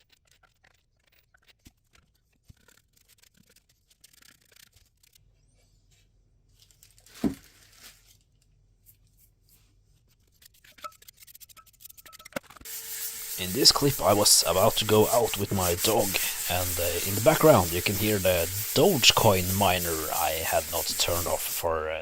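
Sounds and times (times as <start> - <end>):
scraping and rustling of hand work: 0.0 - 22.0.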